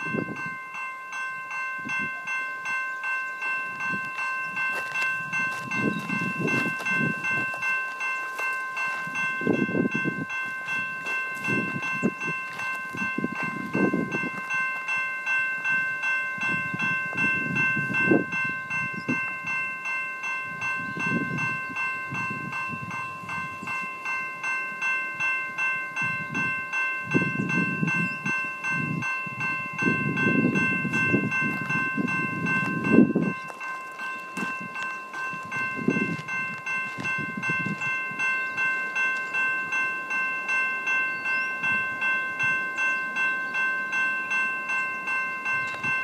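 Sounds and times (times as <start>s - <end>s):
level crossing bell ringing: 0.0s - 46.0s.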